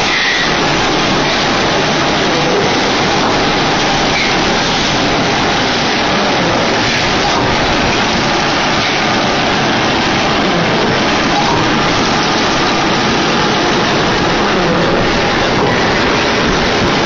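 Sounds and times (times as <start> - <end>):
packing machine running: 0.0 - 17.0.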